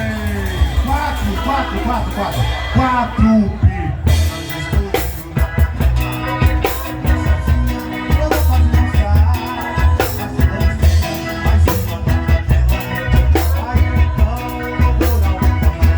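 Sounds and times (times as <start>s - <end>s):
drum kit: 0.0s - 15.9s
live band playing: 0.0s - 15.9s
person singing: 2.8s - 15.9s.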